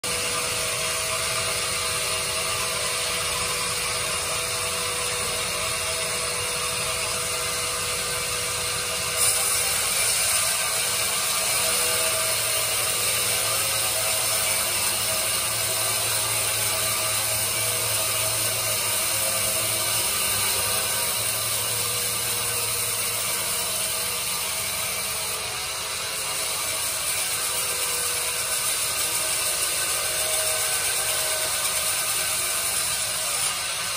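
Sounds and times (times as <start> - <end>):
bandsaw mill sawing log: 0.0 - 33.9.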